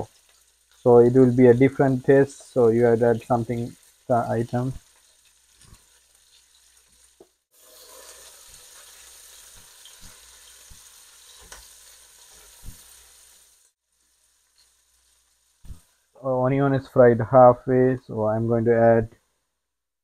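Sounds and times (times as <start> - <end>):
onion sizzling in hot oil: 0.0 - 16.2.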